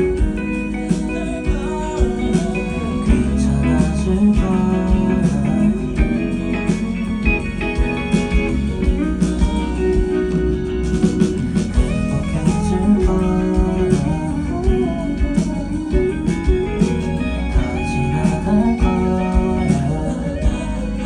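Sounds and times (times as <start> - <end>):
live band music: 0.0 - 21.0
person singing: 0.0 - 21.0.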